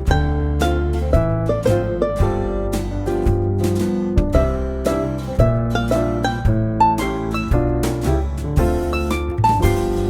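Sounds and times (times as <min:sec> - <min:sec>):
plucked-string melody: 0:00.0 - 0:10.0
steady bass: 0:00.0 - 0:10.0.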